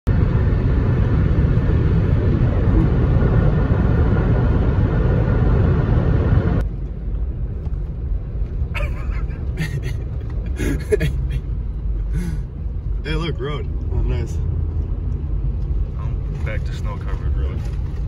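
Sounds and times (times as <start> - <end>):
vehicle road noise: 0.0 - 18.0
tyres and engine rumble: 0.1 - 18.0.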